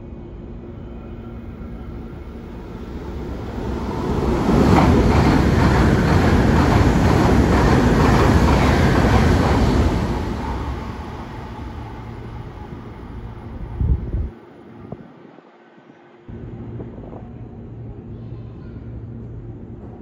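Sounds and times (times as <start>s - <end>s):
high-speed train passing: 0.0s - 18.1s.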